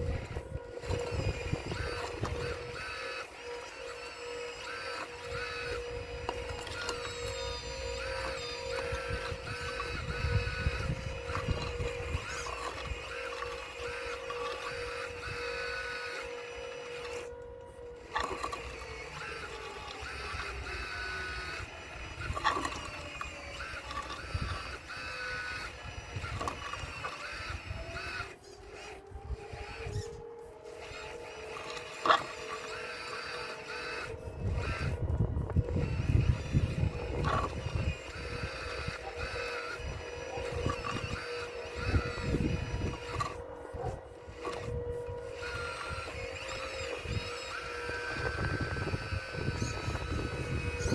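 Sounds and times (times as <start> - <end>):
steady drive tone: 0.0 - 30.2, 30.8 - 50.9
electric motors whining: 0.0 - 50.9.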